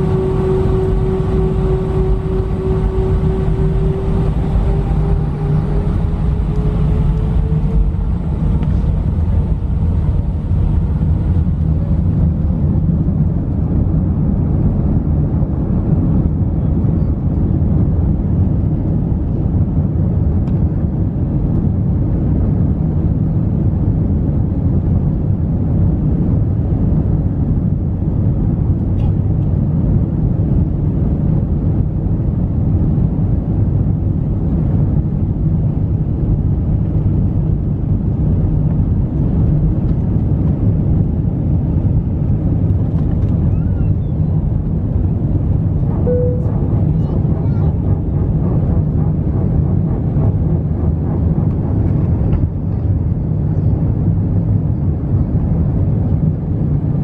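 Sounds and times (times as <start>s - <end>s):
engine whine: 0.0s - 57.0s
jet engines rumbling in cabin: 0.0s - 57.0s.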